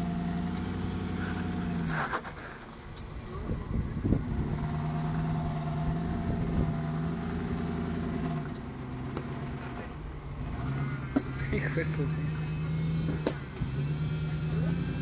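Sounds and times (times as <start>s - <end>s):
vehicle engine under load: 0.0s - 15.0s.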